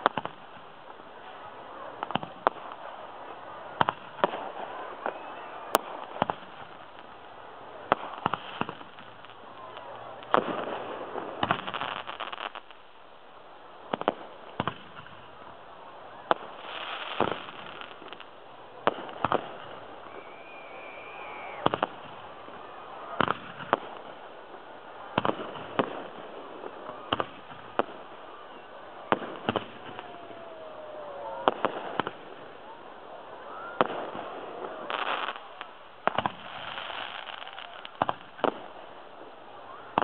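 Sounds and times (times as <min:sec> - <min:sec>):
firework bangs: 0:00.0 - 0:13.0, 0:13.8 - 0:40.0
firework crackling: 0:00.0 - 0:40.0.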